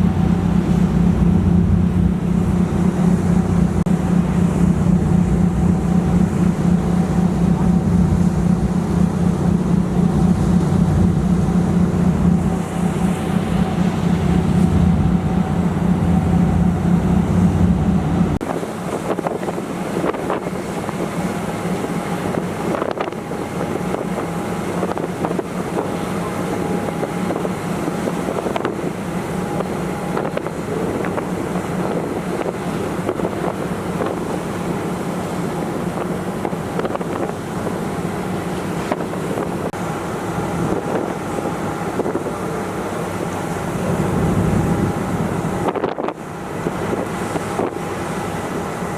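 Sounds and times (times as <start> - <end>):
ferry engine drone: 0.0 - 48.9
wind and water rushing: 0.0 - 48.9.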